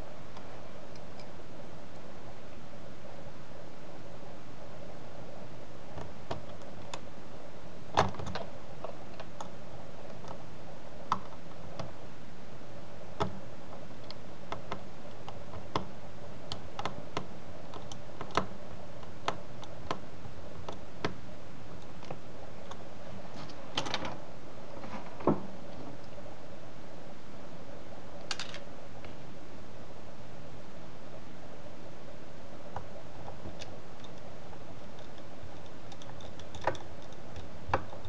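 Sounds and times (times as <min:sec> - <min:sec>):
steady low hiss: 0:00.0 - 0:38.0.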